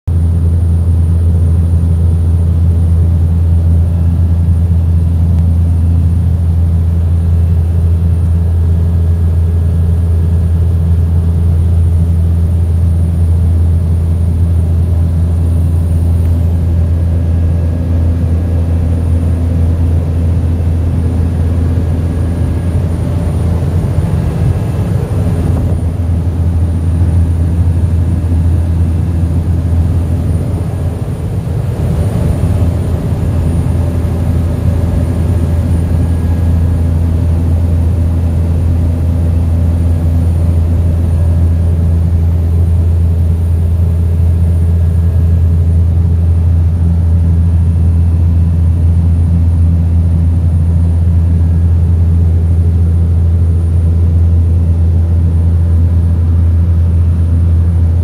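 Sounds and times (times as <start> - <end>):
turboprop engine drone in cockpit: 0.1 - 58.0.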